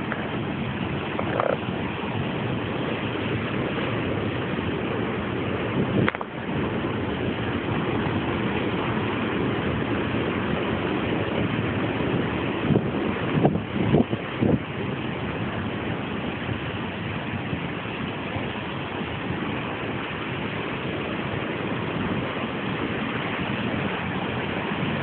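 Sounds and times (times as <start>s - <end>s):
water rushing through a dam: 0.0s - 25.0s.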